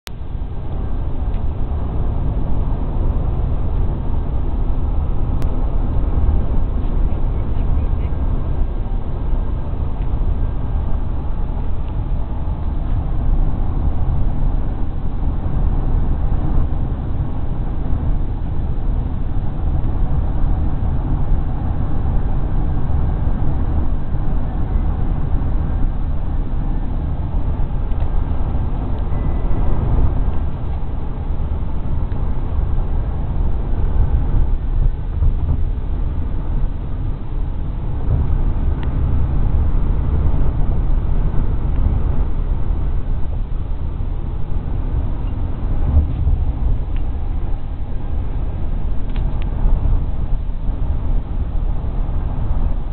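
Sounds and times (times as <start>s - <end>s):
road and engine rumble: 0.0s - 52.9s.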